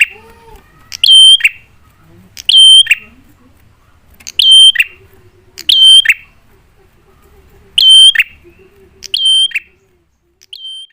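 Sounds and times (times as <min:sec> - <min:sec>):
prinia bird calls: 0:00.0 - 0:06.4, 0:07.2 - 0:10.9.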